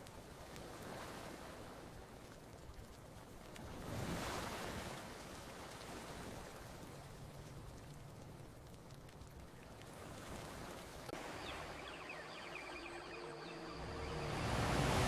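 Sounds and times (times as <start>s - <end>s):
campfire crackles: 0.0s - 14.4s
ocean waves on beach: 0.0s - 15.0s.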